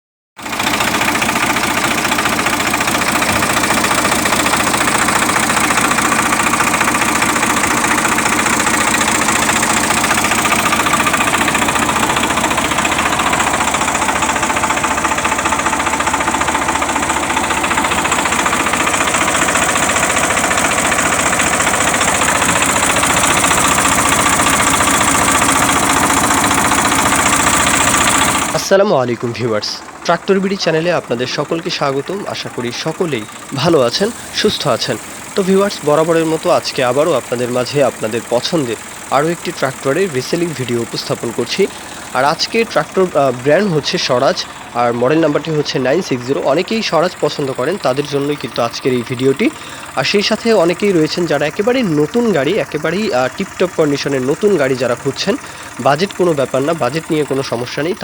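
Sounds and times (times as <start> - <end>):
tractor diesel engine idling: 0.4 - 58.0.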